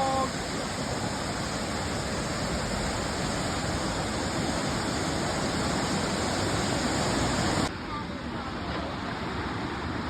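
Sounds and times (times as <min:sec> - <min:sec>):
flood water rushing: 0:00.0 - 0:10.0.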